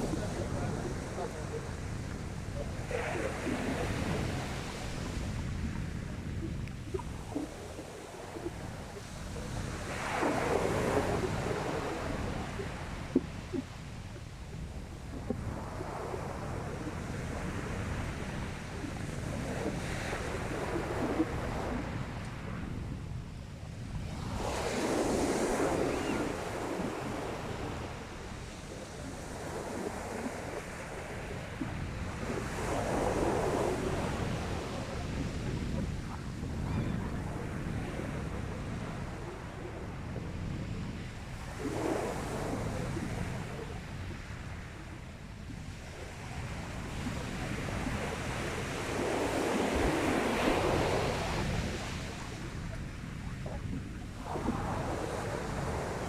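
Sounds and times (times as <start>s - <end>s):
sea waves breaking on shore: 0.0s - 23.0s, 23.7s - 56.0s
wind on microphone: 0.0s - 56.0s.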